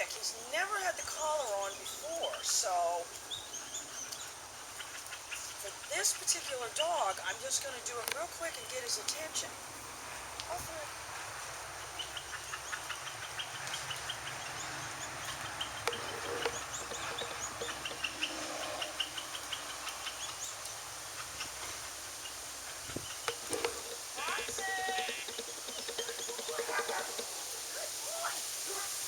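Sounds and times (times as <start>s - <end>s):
small birds chirping: 0.0s - 29.0s
steady outdoor hiss: 0.0s - 29.0s.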